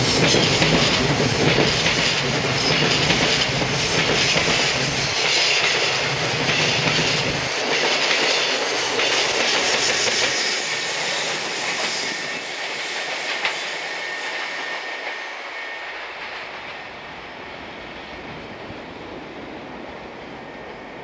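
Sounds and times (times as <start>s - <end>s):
rail clatter: 0.0s - 17.1s.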